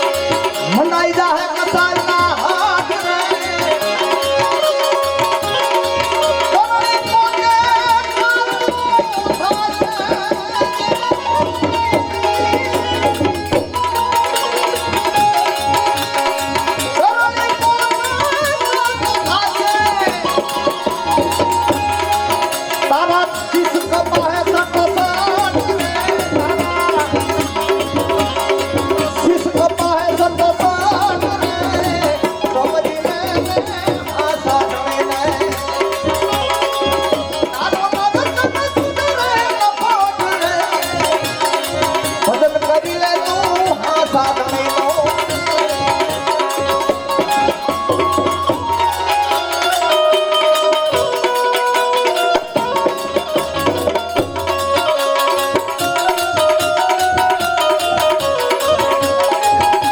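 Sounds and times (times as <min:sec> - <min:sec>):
tabla rhythm: 0:00.0 - 0:59.9.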